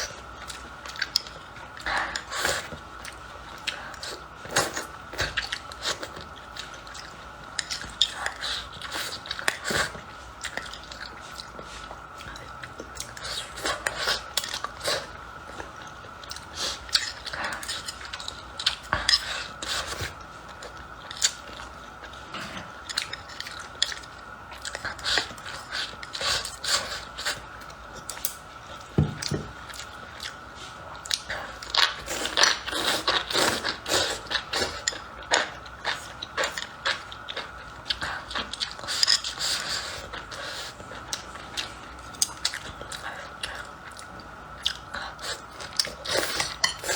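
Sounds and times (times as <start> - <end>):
faint high hum: 0.0 - 46.9.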